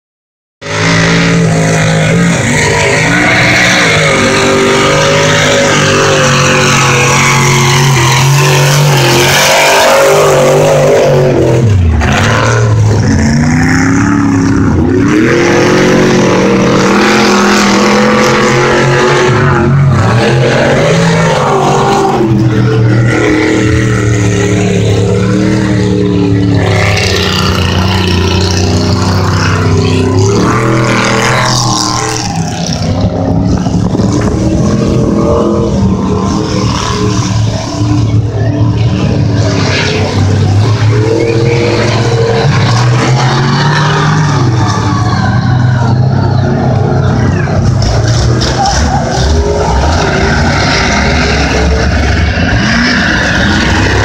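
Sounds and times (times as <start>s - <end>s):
large engine revving: 0.6s - 54.0s.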